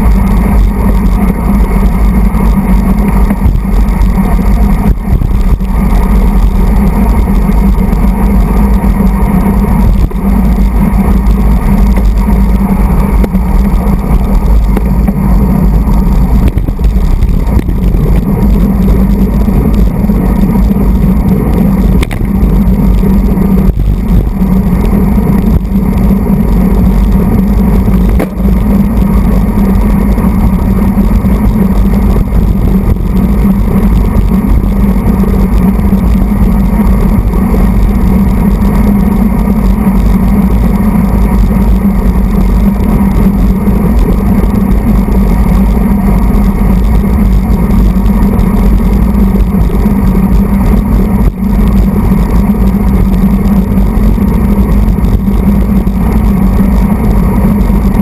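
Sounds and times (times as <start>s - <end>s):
road noise: 0.0s - 58.0s
wind on microphone: 0.0s - 58.0s.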